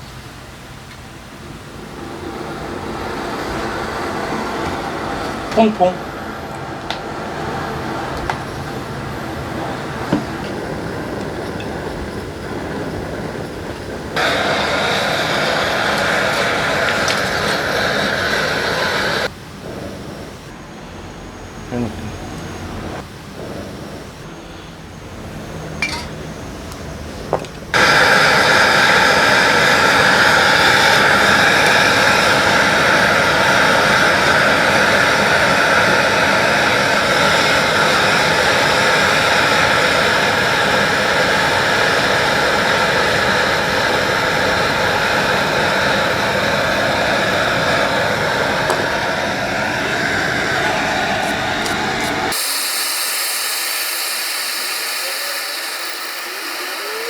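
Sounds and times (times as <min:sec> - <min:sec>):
rush of blown air: 0:01.4 - 0:20.6, 0:27.7 - 0:57.0.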